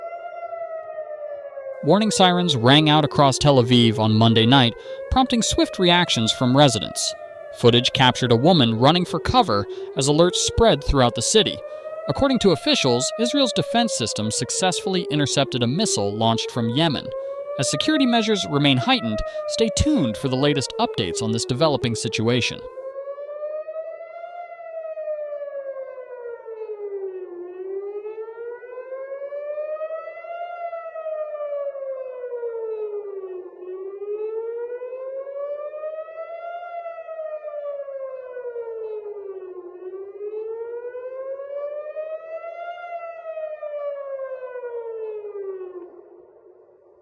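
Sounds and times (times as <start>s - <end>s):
air-raid siren wailing: 0.0s - 46.7s.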